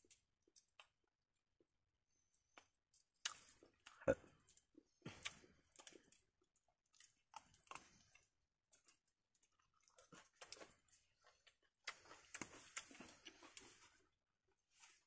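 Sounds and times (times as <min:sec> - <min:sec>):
light eating clicks: 0:00.0 - 0:01.0, 0:02.4 - 0:13.8
faint chewing: 0:00.0 - 0:15.0.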